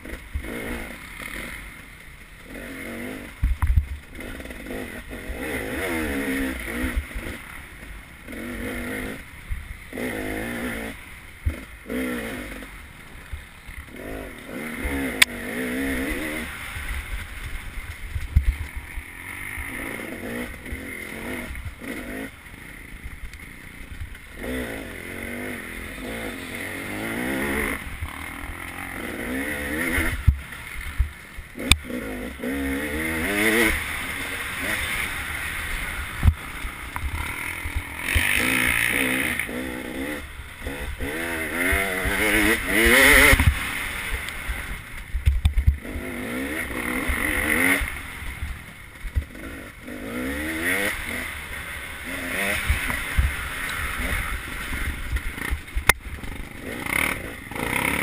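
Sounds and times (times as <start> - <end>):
motorcycle engine revving: 0.0 - 58.0
rumble of wind and terrain: 0.0 - 58.0.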